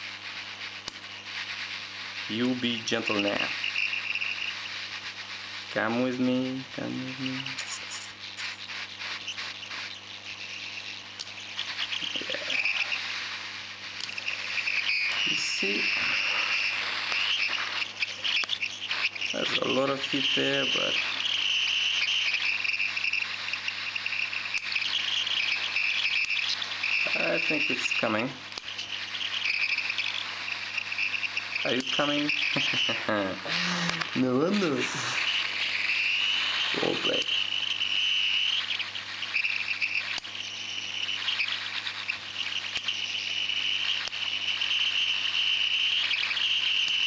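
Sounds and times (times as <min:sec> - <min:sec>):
hot air gun blower whine: 0:00.0 - 0:47.0.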